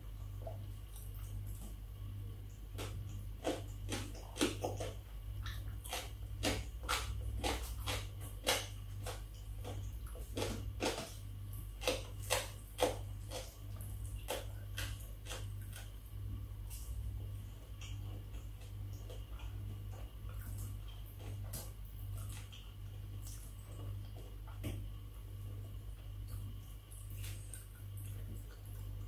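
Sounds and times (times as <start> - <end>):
person chewing and smacking: 2.4 - 29.0.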